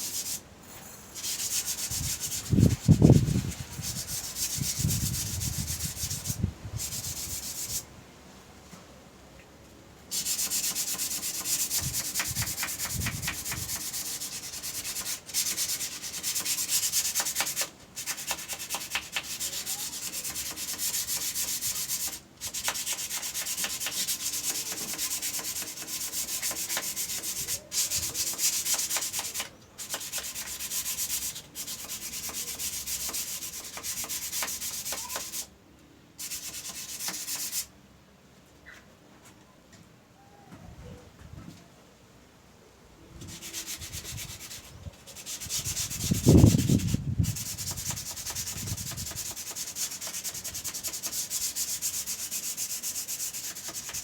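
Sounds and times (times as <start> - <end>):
sandpaper rubbing wood: 0.0 - 0.4, 1.2 - 7.8, 10.1 - 35.5, 36.2 - 37.7, 43.2 - 54.0.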